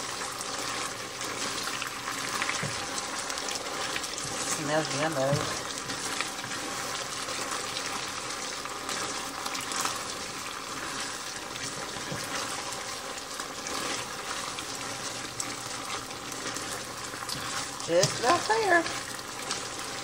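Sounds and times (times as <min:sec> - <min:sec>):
sauce sizzling and bubbling in skillet: 0:00.0 - 0:20.0.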